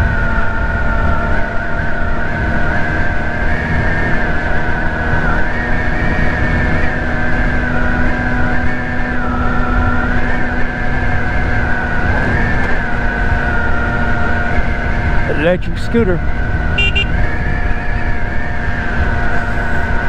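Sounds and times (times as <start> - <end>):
scooter engine whining: 0.0 - 20.0
wind rumble on microphone: 0.0 - 20.0.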